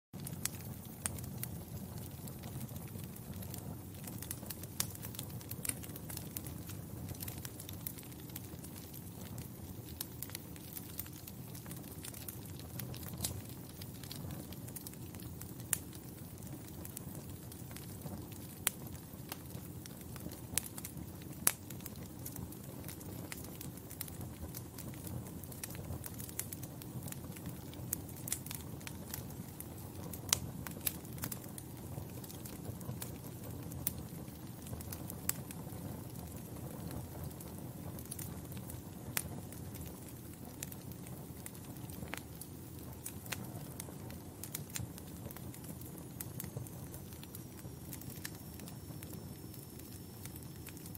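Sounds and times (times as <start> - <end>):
wood fire crackling: 0.2 - 50.9.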